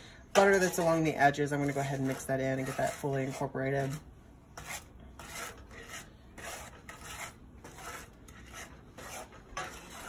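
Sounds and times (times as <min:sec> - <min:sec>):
wooden spoon scraping a skillet: 0:00.3 - 0:10.0.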